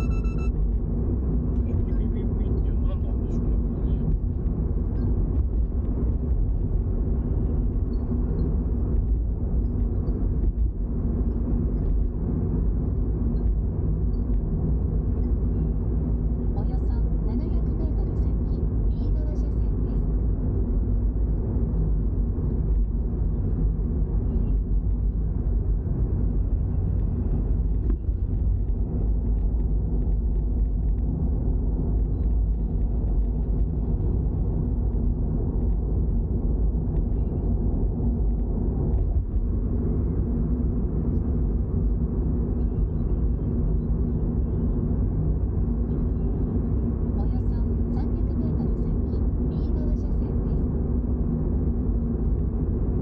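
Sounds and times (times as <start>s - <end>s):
car engine drone: 0.0s - 53.0s
tyre road rumble: 0.0s - 53.0s.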